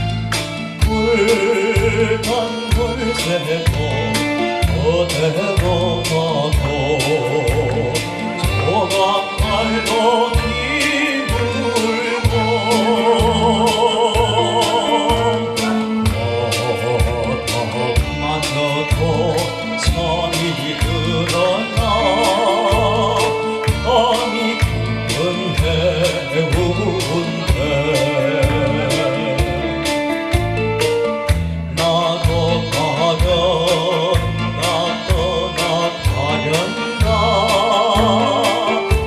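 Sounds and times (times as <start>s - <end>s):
band accompaniment with bass beat: 0.0s - 39.0s
man singing with vibrato: 0.0s - 39.0s.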